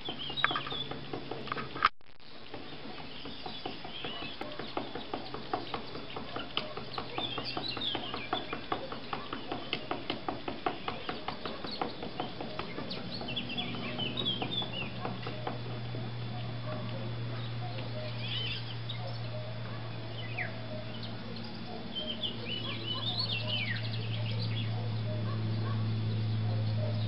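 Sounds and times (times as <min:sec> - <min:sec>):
small birds chirping: 0:00.0 - 0:01.4, 0:02.4 - 0:27.0
low steady hum: 0:00.0 - 0:27.0.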